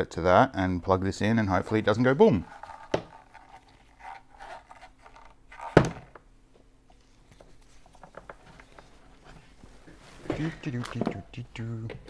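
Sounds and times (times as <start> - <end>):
quiet handling sounds: 1.2 - 12.0.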